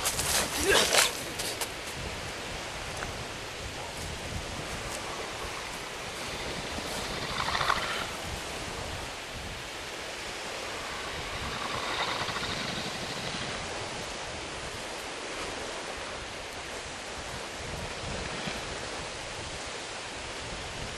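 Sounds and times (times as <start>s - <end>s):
sea surf: 0.0s - 20.9s
wind on a beach: 0.0s - 20.9s.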